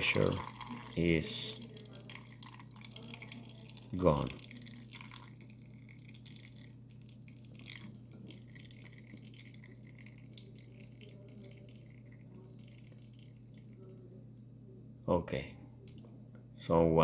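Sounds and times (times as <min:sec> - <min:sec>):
water dripping: 0:00.0 - 0:14.5, 0:15.8 - 0:16.1.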